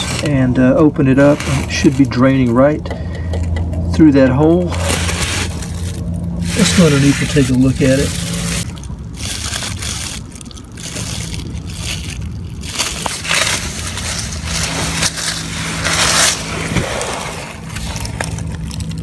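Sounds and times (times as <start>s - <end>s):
low steady hum: 0.0s - 19.0s
rustling and scraping: 0.0s - 19.0s.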